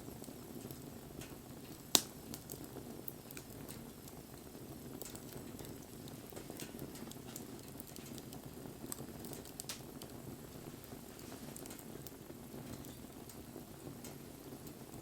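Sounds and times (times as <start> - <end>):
campfire flame rushing: 0.0 - 15.0
wood crackling and popping: 0.0 - 15.0.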